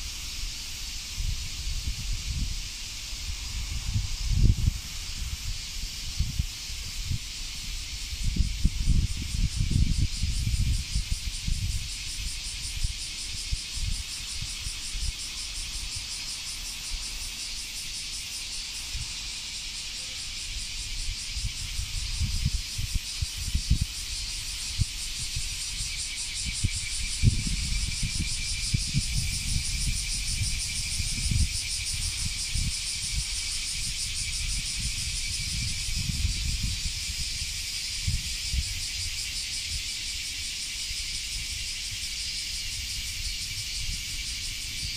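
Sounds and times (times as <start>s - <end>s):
cicadas buzzing chorus: 0.0s - 44.9s.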